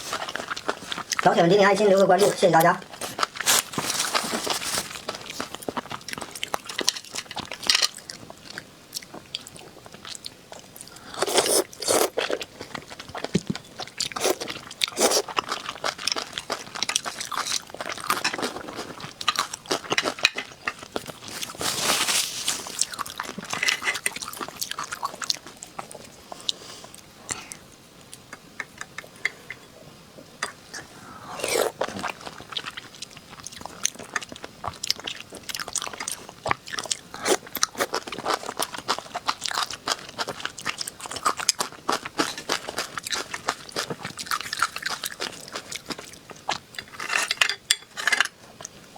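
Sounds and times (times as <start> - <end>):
person chewing crunchy food: 0.0 - 1.4, 2.2 - 29.4, 30.6 - 47.3.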